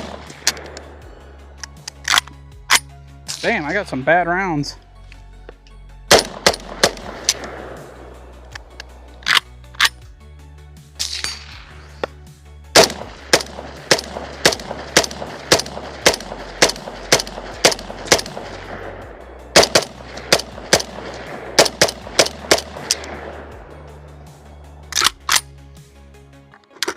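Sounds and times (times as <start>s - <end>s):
rifle firing single shots: 0.0s - 3.8s, 6.1s - 10.0s, 11.0s - 12.1s, 12.8s - 25.5s.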